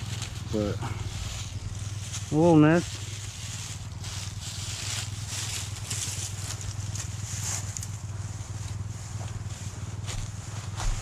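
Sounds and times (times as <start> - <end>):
rustling of brush and dry leaves: 0.0 - 11.0
steady low hum: 0.0 - 11.0.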